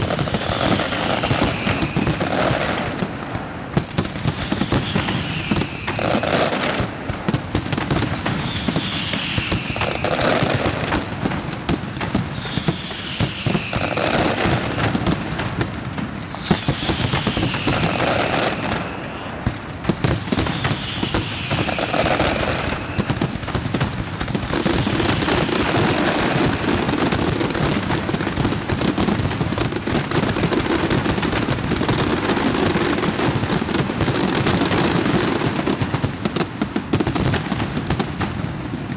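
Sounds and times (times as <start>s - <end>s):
fireworks whistles falling in pitch: 0.0s - 3.1s, 3.7s - 38.0s
fireworks crackling and banging: 0.0s - 38.9s.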